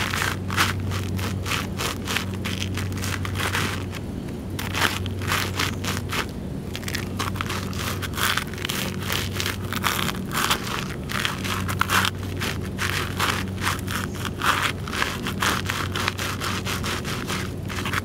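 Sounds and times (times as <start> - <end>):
cereal crunching underfoot: 0.0 - 18.0.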